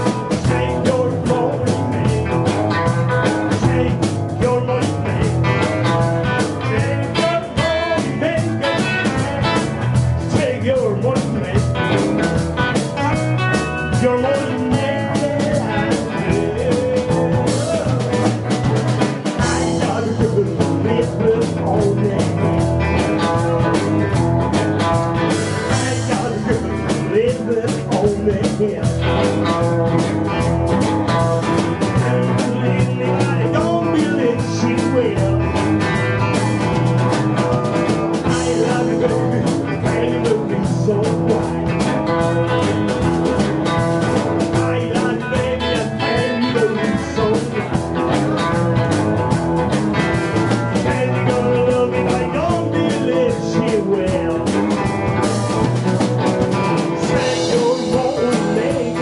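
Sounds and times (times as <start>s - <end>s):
drum kit: 0.0s - 59.0s
electric bass: 0.0s - 59.0s
electric guitars: 0.0s - 59.0s.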